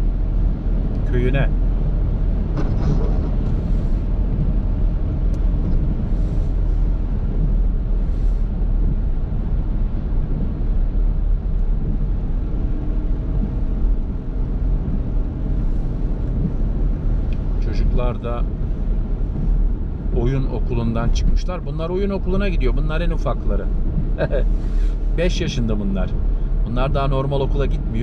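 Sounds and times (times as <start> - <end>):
engine and tyre rumble: 0.0 - 28.0
engine hum: 0.0 - 28.0
windscreen wipers swishing: 0.0 - 28.0.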